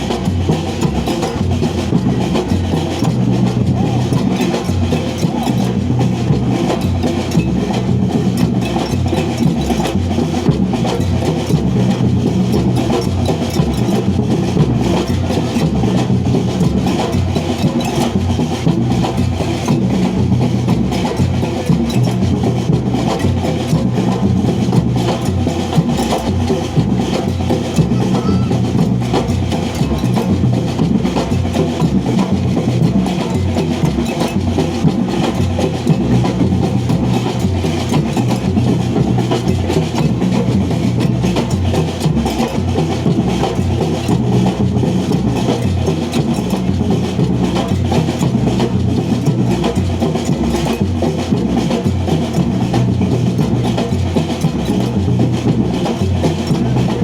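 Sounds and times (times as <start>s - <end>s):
drums playing a rhythm: 0.0s - 57.0s.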